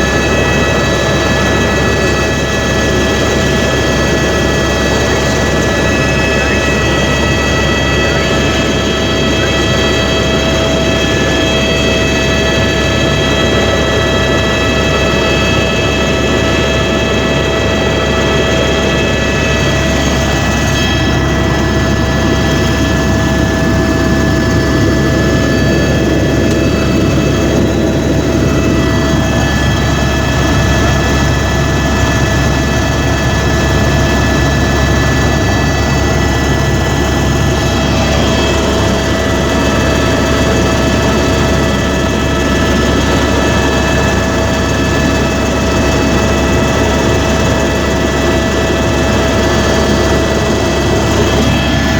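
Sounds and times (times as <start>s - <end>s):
helicopter rotor drone: 0.0s - 51.9s
high turbine whine: 0.0s - 51.9s.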